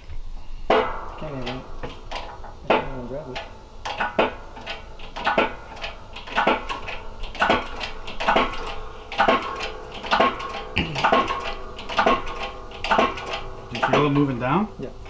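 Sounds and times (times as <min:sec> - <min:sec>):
metal-on-metal strikes ringing: 0:00.7 - 0:15.0.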